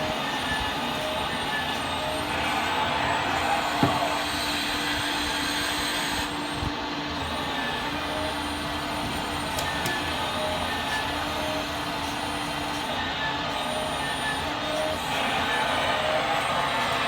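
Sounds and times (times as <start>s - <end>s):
electric pump whir: 0.0s - 17.0s.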